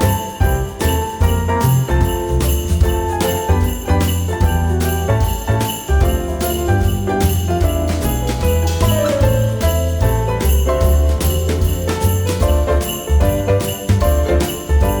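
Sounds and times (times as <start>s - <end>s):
bass line: 0.0s - 15.0s
sleigh bells shaking to a beat: 0.0s - 15.0s.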